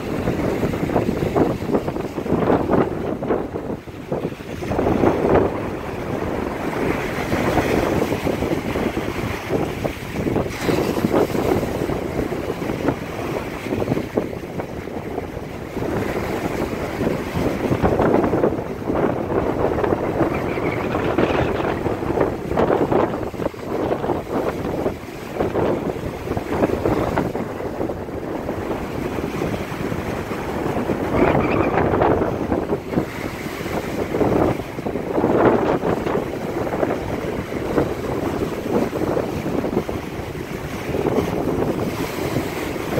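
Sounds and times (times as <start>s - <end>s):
surf breaking on beach: 0.0s - 42.9s
wind buffeting microphone: 0.0s - 42.9s.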